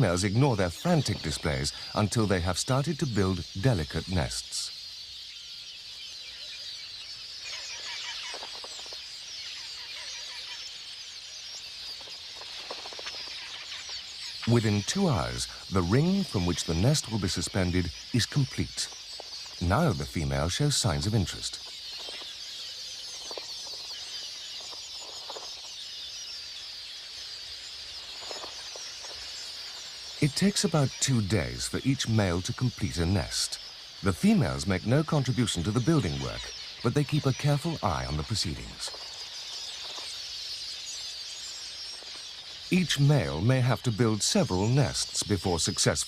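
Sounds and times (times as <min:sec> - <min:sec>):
birds chirping and chattering: 0:00.0 - 0:46.0.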